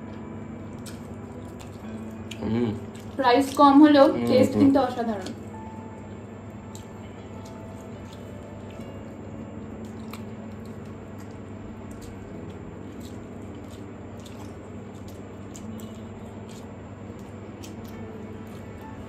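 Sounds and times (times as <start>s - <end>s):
steady low hum: 0.0s - 19.0s
chewing with wet squishing: 0.1s - 5.4s, 6.6s - 19.0s.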